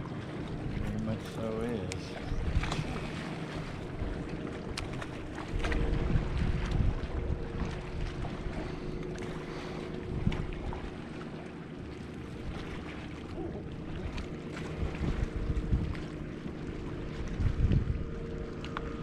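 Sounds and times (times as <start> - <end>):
electric trolling motor humming: 0.0 - 19.0
wind rumbling on microphone: 0.0 - 19.0.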